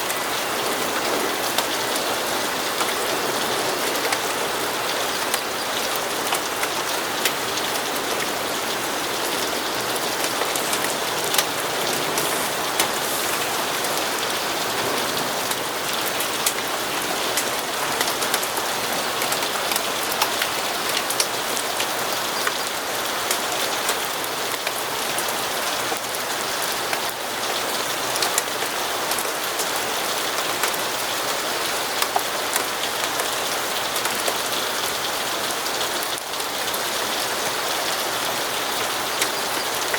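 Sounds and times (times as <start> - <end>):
rain ticking on a surface: 0.0 - 39.9.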